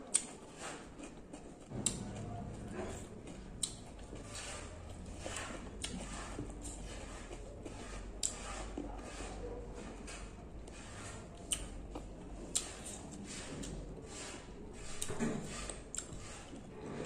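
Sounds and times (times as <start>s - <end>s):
wet chewing: 0.0s - 17.0s.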